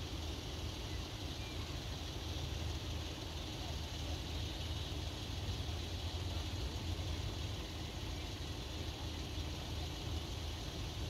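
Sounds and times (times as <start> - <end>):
light hiss: 0.0 - 11.0
low engine rumble: 0.0 - 11.0.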